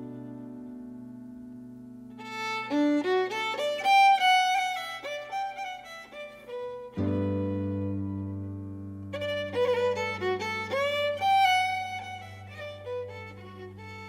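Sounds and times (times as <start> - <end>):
fiddle melody: 0.0 - 0.7, 2.1 - 14.0.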